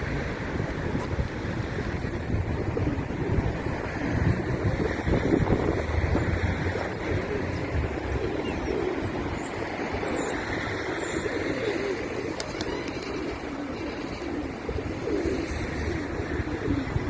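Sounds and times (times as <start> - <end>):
pigeons cooing: 0.0 - 2.0, 2.8 - 17.0
steady background noise: 0.0 - 17.0.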